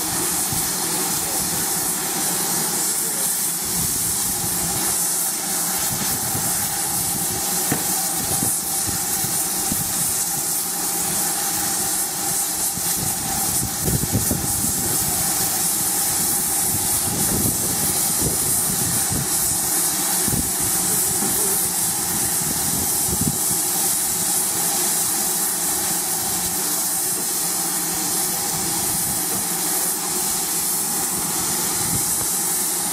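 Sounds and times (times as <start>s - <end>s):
steam hissing from locomotive: 0.0s - 32.9s.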